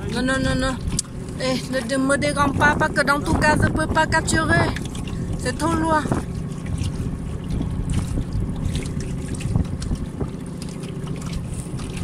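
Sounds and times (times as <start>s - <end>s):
water slapping against hull: 0.0s - 12.0s
wind buffeting microphone: 0.0s - 12.0s.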